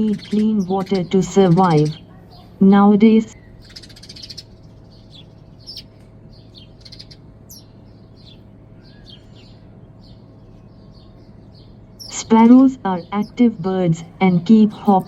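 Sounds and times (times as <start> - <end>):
faint low hum: 0.0 - 15.0
sparrows chirping: 0.0 - 15.0.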